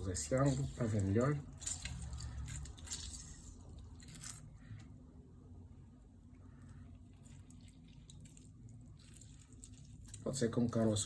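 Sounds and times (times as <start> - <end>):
lemon squishing: 0.0 - 4.9, 6.5 - 11.0
small crackles: 0.0 - 4.9, 6.5 - 11.0.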